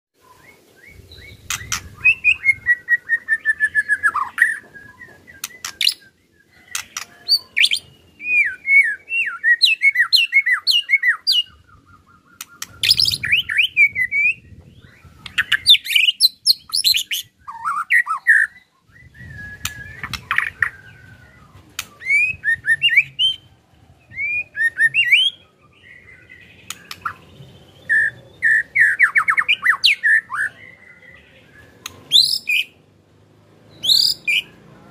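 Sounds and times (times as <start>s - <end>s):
bird singing: 0.2s - 32.9s, 33.5s - 34.9s.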